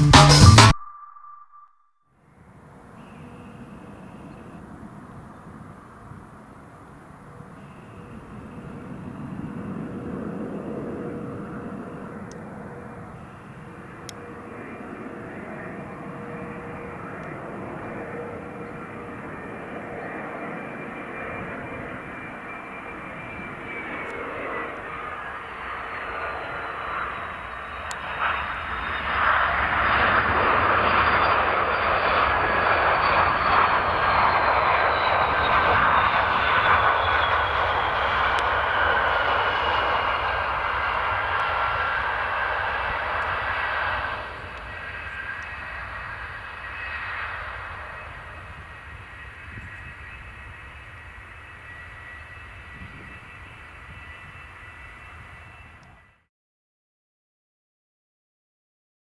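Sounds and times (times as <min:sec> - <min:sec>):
jet engines whining: 0:02.6 - 0:56.2.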